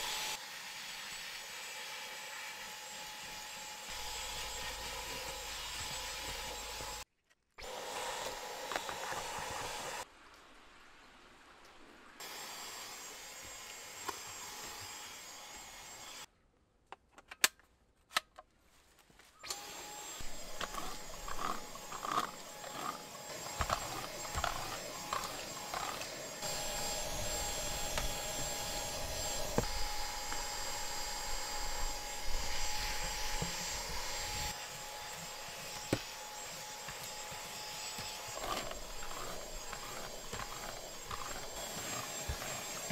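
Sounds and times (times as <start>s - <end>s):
cordless vacuum whining: 0.0s - 7.0s, 7.6s - 10.0s, 12.2s - 16.3s, 19.4s - 42.9s.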